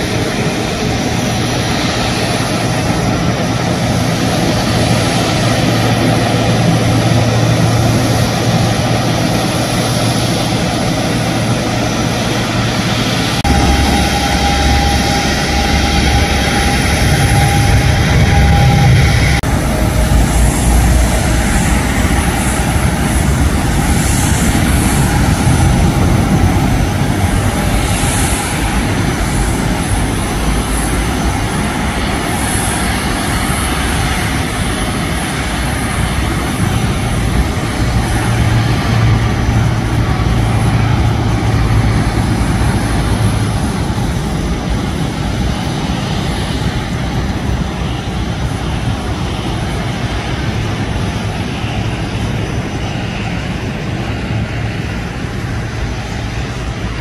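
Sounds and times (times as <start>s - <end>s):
low hum: 0.0s - 48.0s
faint high engine whine: 0.0s - 57.0s
jet engines rumbling at taxi power: 0.0s - 57.0s.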